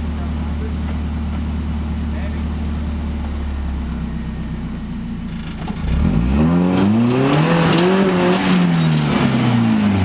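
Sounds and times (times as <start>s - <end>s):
truck engine idling and revving: 0.0s - 10.0s.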